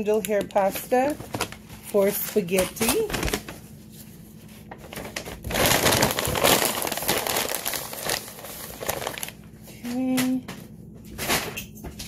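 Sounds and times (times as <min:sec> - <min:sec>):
shopping bag crinkling: 0:00.0 - 0:09.7.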